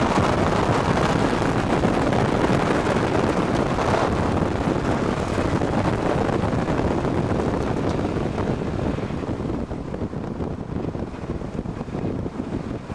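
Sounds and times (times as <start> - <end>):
tyre and road noise: 0.0 - 12.9
wind buffeting microphone: 0.0 - 12.9.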